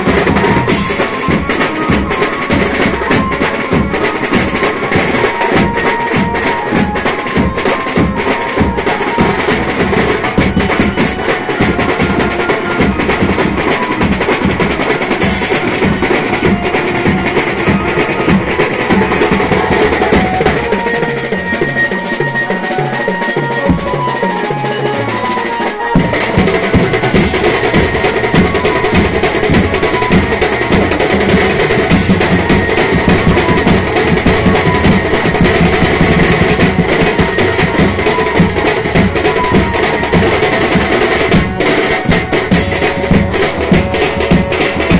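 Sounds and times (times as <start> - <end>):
big drums beaten with mallets: 0.0 - 44.9
fast loud drumming: 0.0 - 44.9
melody line: 0.0 - 44.9.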